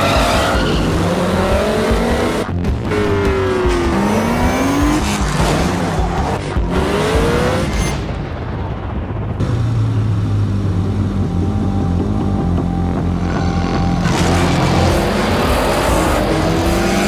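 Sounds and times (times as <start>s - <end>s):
car engine revving: 0.0s - 8.0s, 9.4s - 17.0s
steady low drone: 0.0s - 17.0s.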